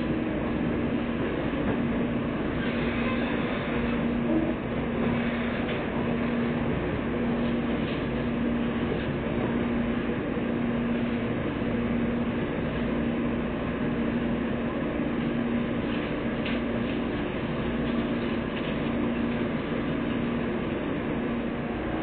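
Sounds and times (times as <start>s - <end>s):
electric train running noise: 0.0s - 22.0s.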